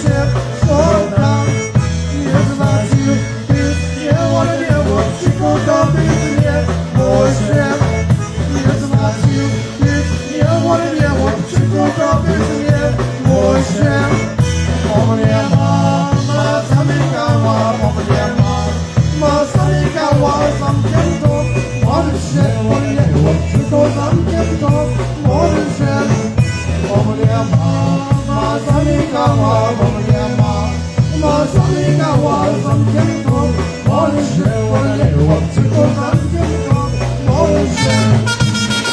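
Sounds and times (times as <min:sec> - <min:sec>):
oom-pah bass beat: 0:00.0 - 0:38.9
polka band playing: 0:00.0 - 0:38.9.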